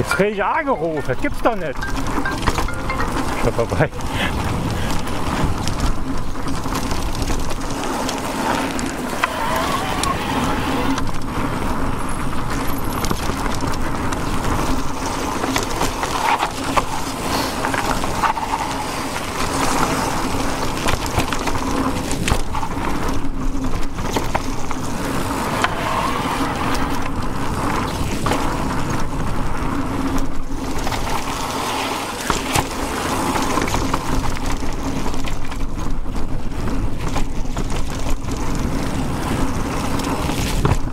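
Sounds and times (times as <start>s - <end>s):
bike clicks and rattles: 0.0s - 40.9s
bike tyres rolling: 0.0s - 40.9s
wind noise: 0.0s - 40.9s.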